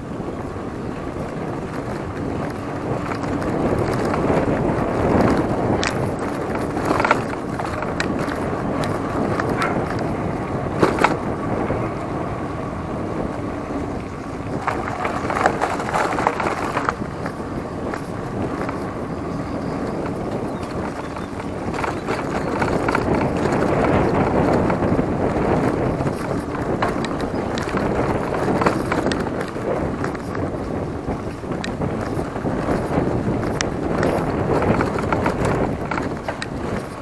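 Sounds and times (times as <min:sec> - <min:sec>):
bike clattering over bumps: 0:00.0 - 0:37.0
bike tyre noise: 0:00.0 - 0:37.0
wind rush on microphone: 0:00.0 - 0:37.0.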